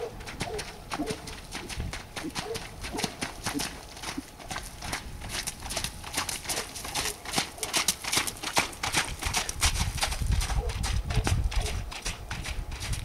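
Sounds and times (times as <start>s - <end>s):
horse hooves trotting on wet ground: 0.0s - 13.0s.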